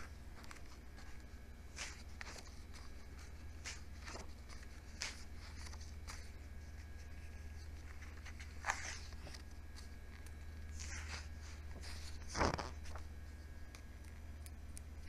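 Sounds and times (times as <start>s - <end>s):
book pages rustling: 0.0s - 14.3s
faint low hum: 0.0s - 15.0s.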